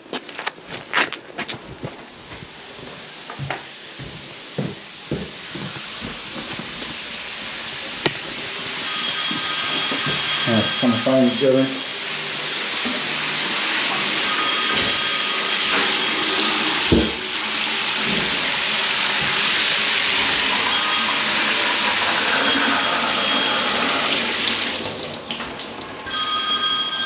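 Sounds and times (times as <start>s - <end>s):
shower water rushing: 1.8s - 26.6s.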